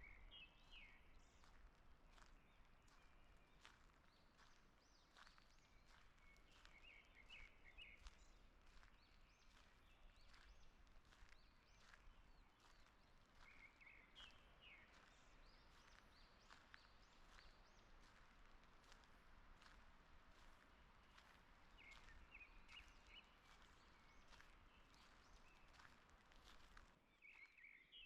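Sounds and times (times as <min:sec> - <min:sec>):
footsteps on forest path: 0:00.2 - 0:27.7.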